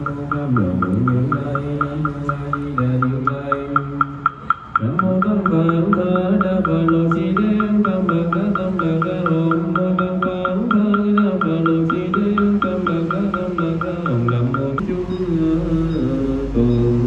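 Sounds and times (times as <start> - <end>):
quick clacking beat: 0.0 - 15.6
low wavering melody: 0.0 - 17.0.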